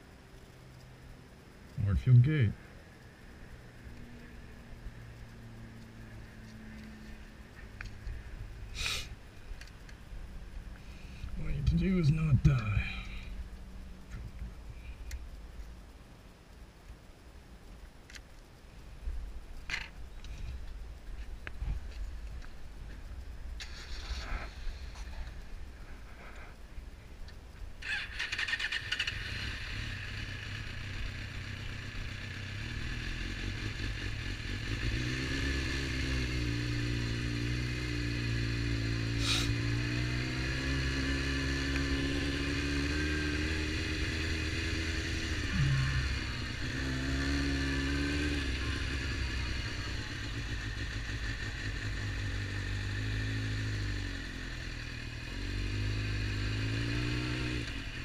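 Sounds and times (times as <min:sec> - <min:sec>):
motorcycle engine at low revs: 0:00.0 - 0:17.3, 0:19.0 - 0:58.0.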